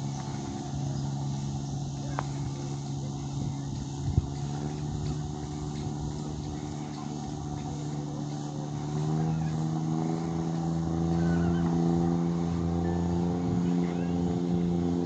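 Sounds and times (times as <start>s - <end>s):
motor engine running: 0.0s - 15.0s.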